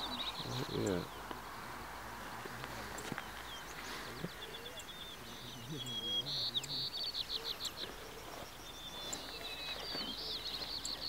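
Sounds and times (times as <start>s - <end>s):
songbird trilling: 0.0s - 1.6s, 2.9s - 11.0s.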